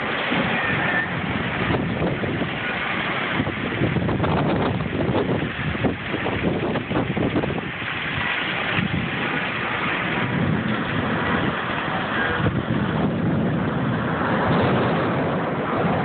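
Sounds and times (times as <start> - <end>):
heavy rain: 0.0 - 16.0
storm wind: 0.0 - 16.0
wind buffeting microphone: 0.0 - 16.0.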